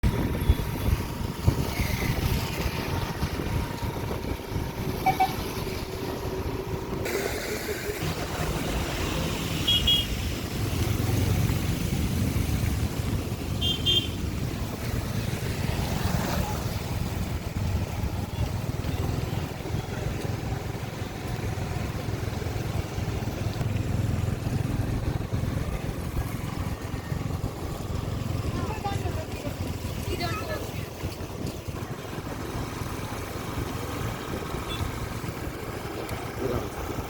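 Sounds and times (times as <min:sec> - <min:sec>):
motor vehicles rumbling: 0:00.0 - 0:37.0.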